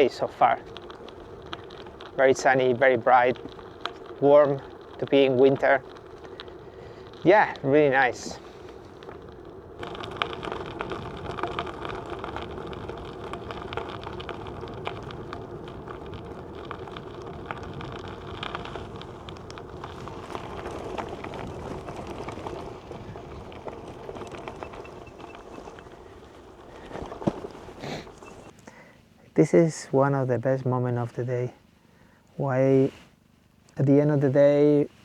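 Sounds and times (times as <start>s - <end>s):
bike tyres crackling on gravel: 0.0s - 35.0s.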